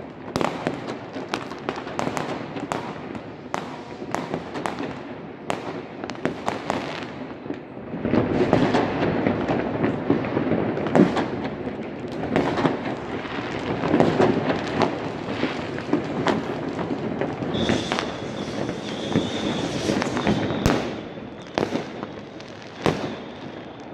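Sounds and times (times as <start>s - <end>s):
fireworks bangs and crackle: 0.0s - 23.9s.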